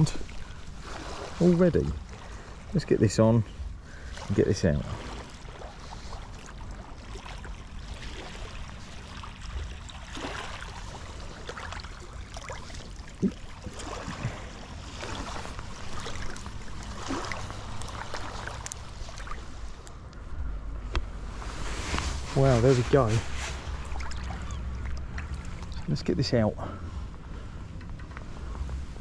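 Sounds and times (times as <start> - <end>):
seawater lapping at shoreline: 0.0 - 29.0.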